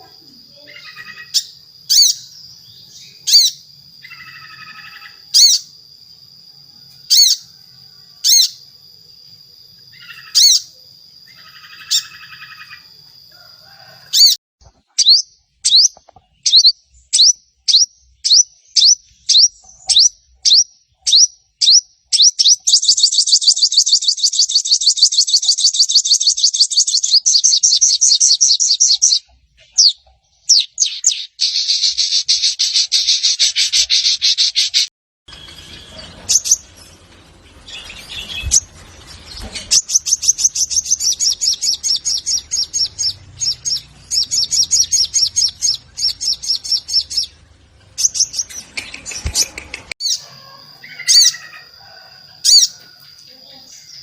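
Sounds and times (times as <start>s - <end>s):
bird chirping and trilling: 0.0s - 6.1s, 6.8s - 8.8s, 9.7s - 13.1s, 14.1s - 51.8s, 52.4s - 54.0s.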